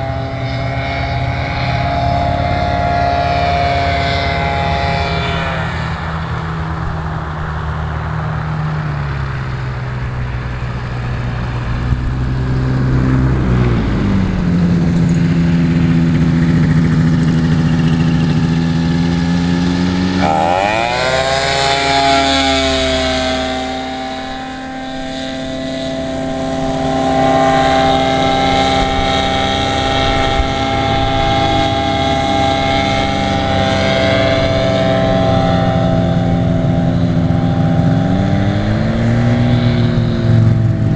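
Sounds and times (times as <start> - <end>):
propeller aircraft engine running: 0.0 - 40.9.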